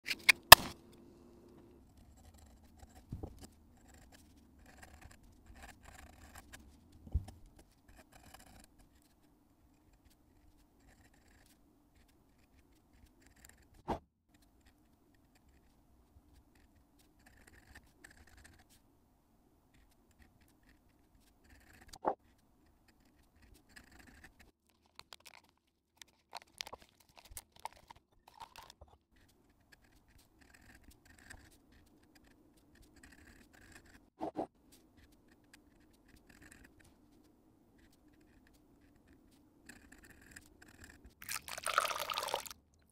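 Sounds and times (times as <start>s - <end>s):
pen nib scratching on paper: 1.9s - 18.8s, 19.7s - 41.2s.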